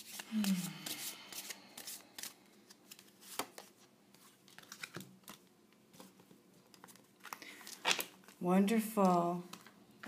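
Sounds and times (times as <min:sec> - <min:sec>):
cards being handled: 0:00.0 - 0:08.4.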